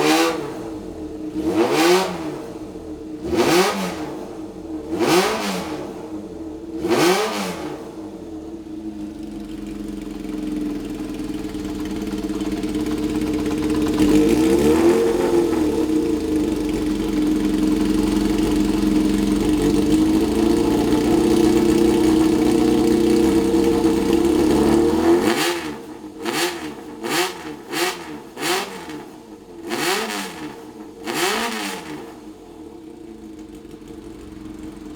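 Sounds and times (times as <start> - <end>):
loud high-pitched motorcycle engine revving: 0.0 - 6.2, 6.8 - 8.0, 11.4 - 32.4.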